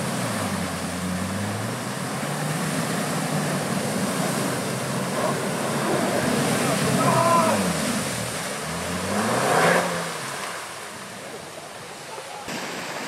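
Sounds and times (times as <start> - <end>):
tyres churning muddy water: 0.0 - 13.0.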